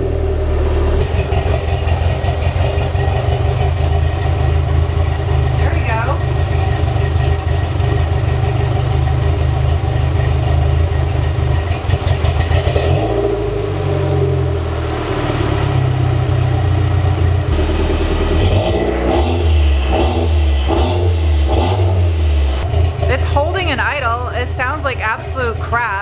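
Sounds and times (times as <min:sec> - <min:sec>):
car engine idling roughly: 0:00.0 - 0:26.0.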